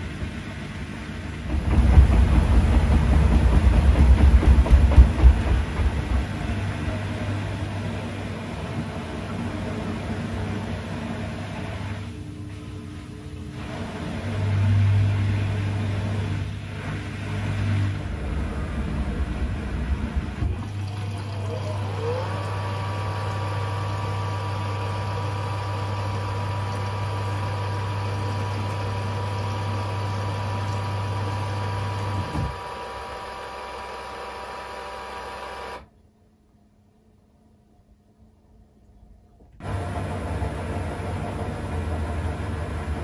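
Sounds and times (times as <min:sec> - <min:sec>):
washing machine drum hum: 0:00.0 - 0:35.4, 0:39.6 - 0:43.0
washing machine motor whine: 0:00.0 - 0:36.0, 0:39.6 - 0:43.0.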